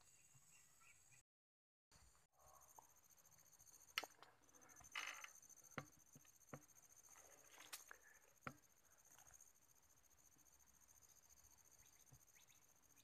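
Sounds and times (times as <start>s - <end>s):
high insect trill: 2.4s - 13.0s.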